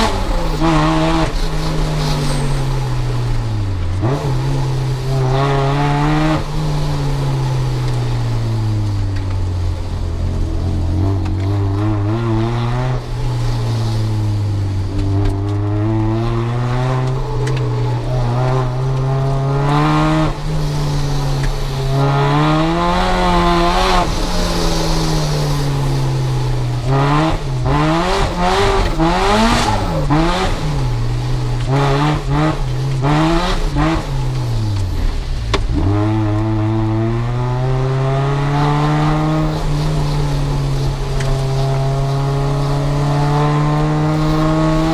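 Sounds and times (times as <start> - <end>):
tyre squeal: 0.0 - 36.6, 37.6 - 44.9
car engine revving: 0.0 - 44.9.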